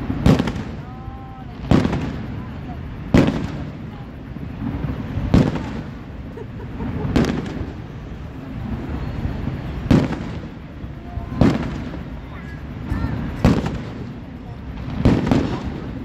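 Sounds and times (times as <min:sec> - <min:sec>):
firework shells bursting: 0:00.0 - 0:02.4, 0:03.0 - 0:08.9, 0:09.7 - 0:16.0.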